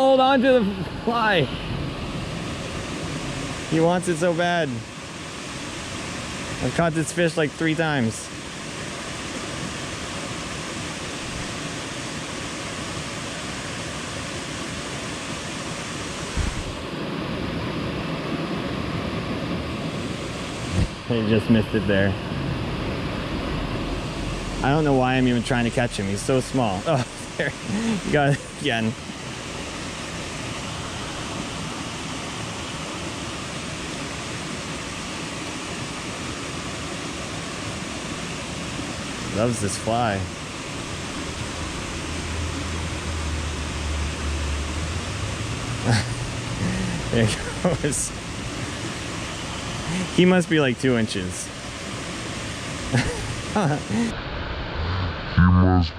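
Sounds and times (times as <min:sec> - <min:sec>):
brook and small waterfall rushing: 0:00.0 - 0:54.3.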